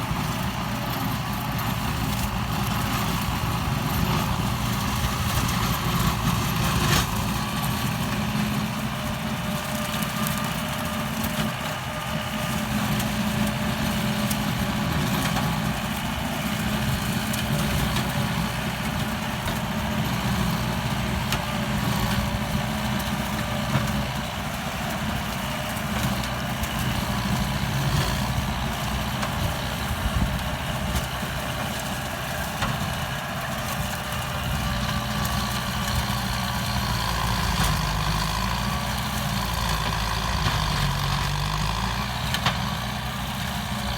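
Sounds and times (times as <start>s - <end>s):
rotary tiller shredding plants: 0.0s - 43.9s
tractor diesel engine running: 0.0s - 43.9s.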